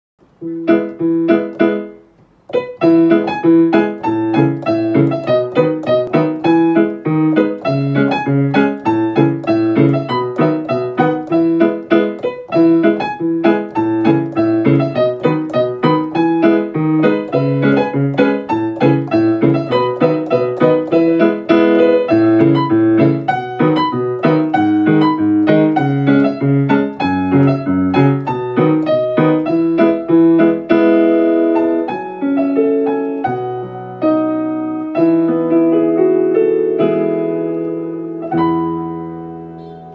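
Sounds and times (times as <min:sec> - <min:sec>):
piano music: 0:00.2 - 0:39.9.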